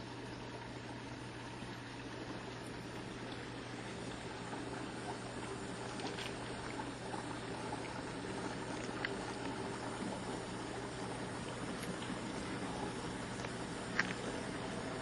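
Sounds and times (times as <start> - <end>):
dishwasher humming: 0.0 - 15.0
water washing inside dishwasher: 0.0 - 15.0.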